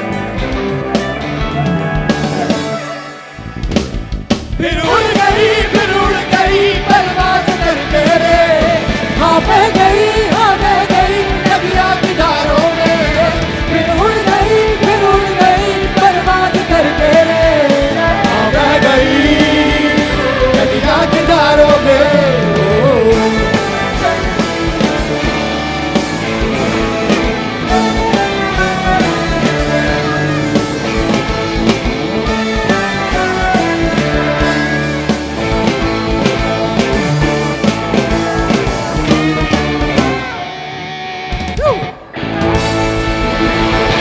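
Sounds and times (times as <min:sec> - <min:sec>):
sung melody: 0:00.0 - 0:41.4
live rock band music: 0:00.0 - 0:44.0.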